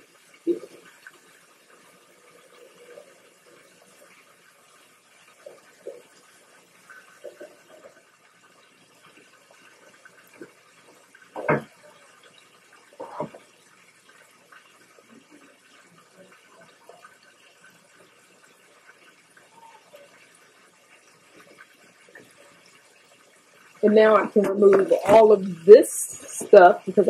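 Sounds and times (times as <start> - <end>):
faucet running: 0.0 - 27.0.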